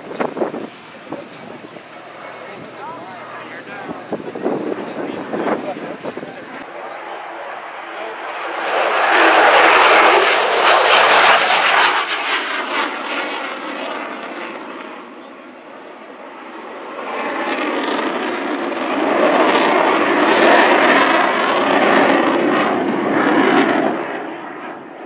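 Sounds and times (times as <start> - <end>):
jet engine noise: 0.0 - 25.0.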